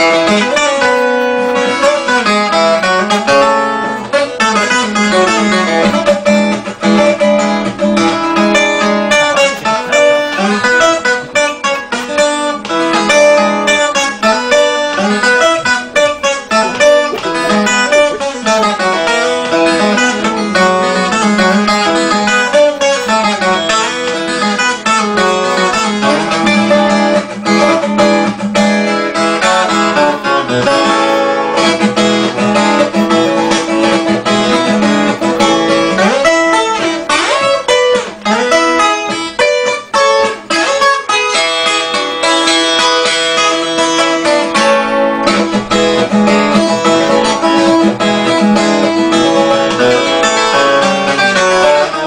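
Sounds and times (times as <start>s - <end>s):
acoustic guitar music: 0.0s - 52.0s.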